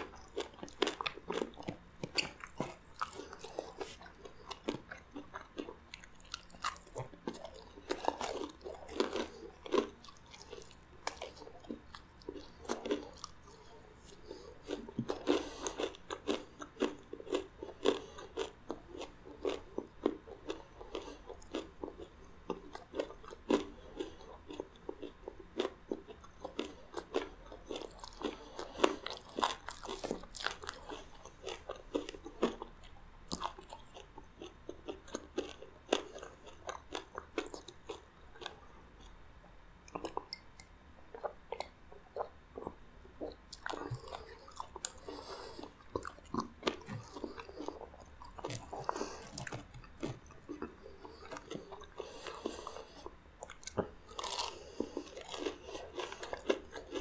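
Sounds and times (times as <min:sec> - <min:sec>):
crunchy chewing: 0:00.0 - 0:39.2, 0:39.8 - 0:57.0.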